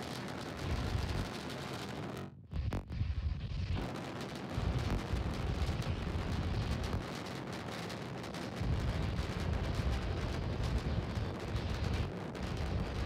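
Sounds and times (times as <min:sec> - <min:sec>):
rocket engines rumbling and crackling: 0:00.0 - 0:13.0.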